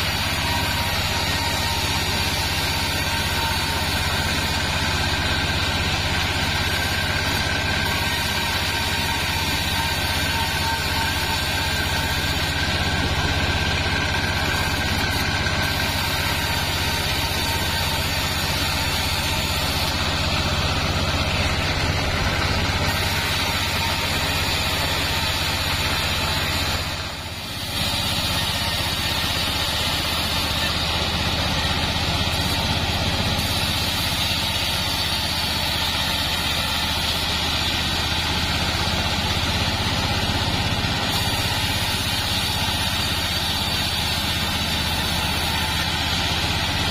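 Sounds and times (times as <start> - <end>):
bandsaw cutting wood: 0.0 - 46.9.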